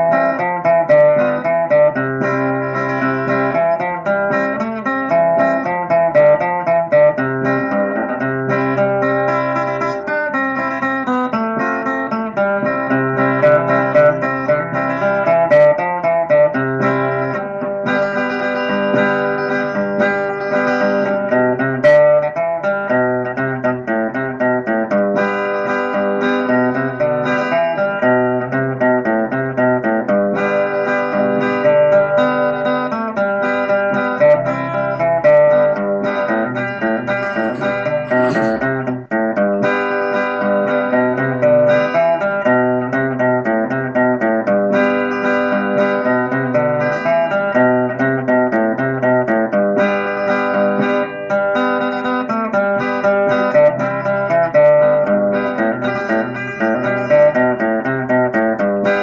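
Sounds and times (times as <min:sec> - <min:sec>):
acoustic guitar instrumental: 0:00.0 - 0:59.0.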